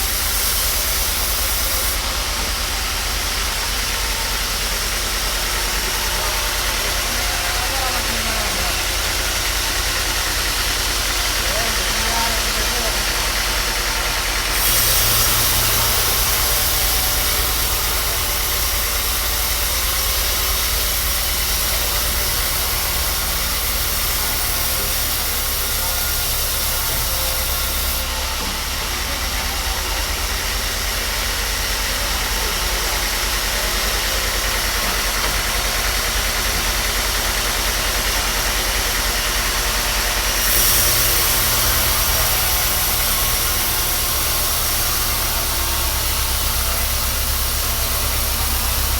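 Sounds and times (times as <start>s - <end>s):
hiss: 0.0s - 48.9s
machine motor humming: 0.0s - 48.9s.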